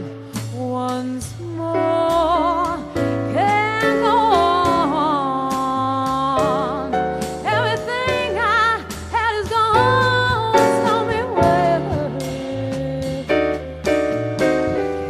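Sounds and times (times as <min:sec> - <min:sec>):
woman singing with vibrato: 0:00.0 - 0:13.5
jazz ballad: 0:00.0 - 0:15.0.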